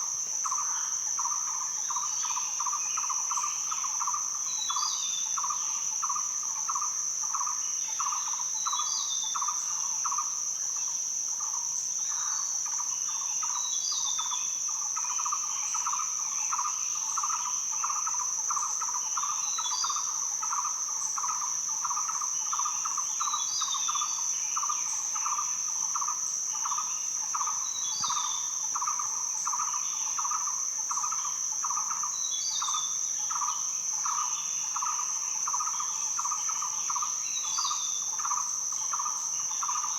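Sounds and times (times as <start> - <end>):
cicada drone: 0.0 - 39.9.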